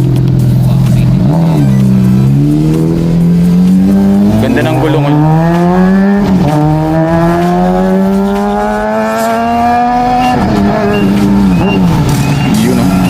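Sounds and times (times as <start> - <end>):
sport motorcycle engine revving: 0.0 - 13.0.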